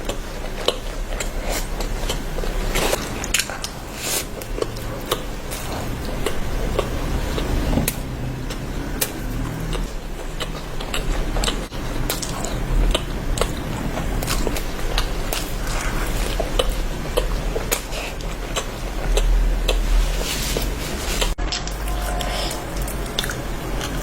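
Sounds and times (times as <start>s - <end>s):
wet chewing: 0.0s - 24.0s.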